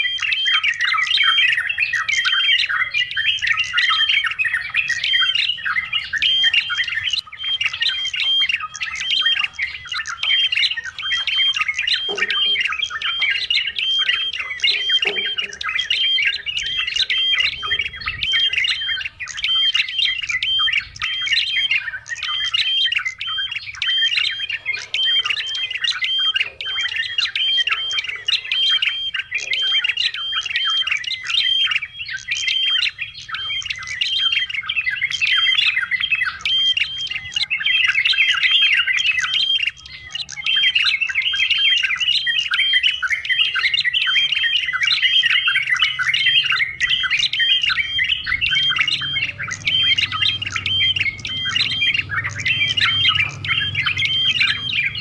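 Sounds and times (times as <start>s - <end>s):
bird chattering calls: 0.0s - 55.0s.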